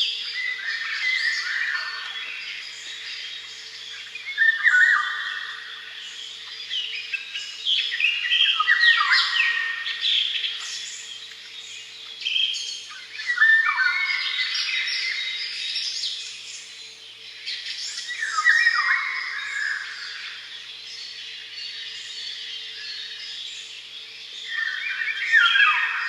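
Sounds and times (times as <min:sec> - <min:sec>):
songbirds chirping and warbling: 0:00.0 - 0:26.0.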